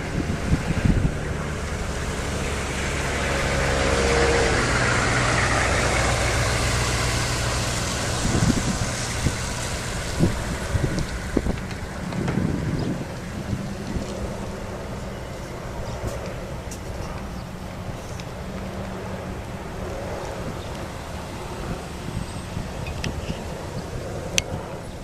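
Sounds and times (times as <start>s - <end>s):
road and wind noise: 0.0s - 25.0s
vehicle engine hum: 0.0s - 25.0s
wind buffeting microphone: 0.0s - 25.0s.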